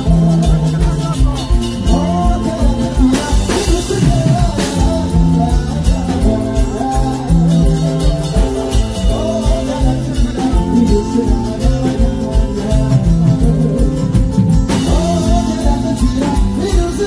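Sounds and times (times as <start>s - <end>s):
drum beat: 0.0s - 17.0s
guitar: 0.0s - 17.0s
keyboard: 0.0s - 17.0s
live band playing: 0.0s - 17.0s
person singing: 0.0s - 17.0s.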